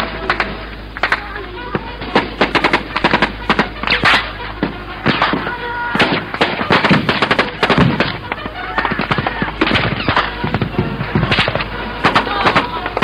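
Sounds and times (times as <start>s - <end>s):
rifle gunfire: 0.0s - 13.0s.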